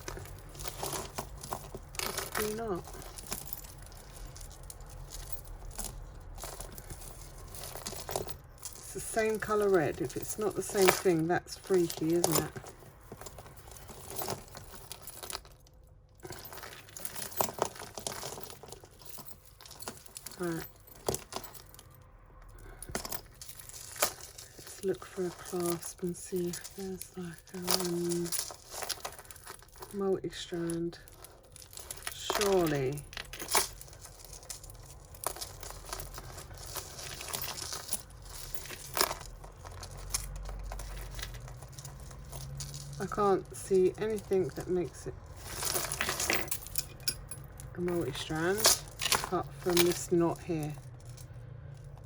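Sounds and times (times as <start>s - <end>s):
beads clicking and rattling: 0.0s - 52.0s
rustling: 0.0s - 52.0s.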